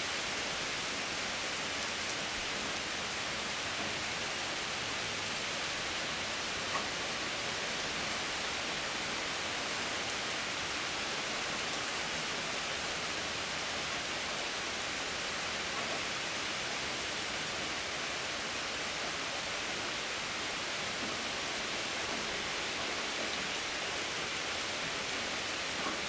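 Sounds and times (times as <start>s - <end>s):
rain falling steadily: 0.0s - 26.0s.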